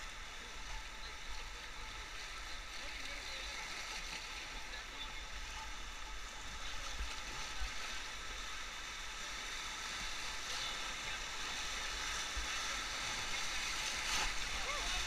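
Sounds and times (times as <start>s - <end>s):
whitewater rapids rushing: 0.1s - 15.0s.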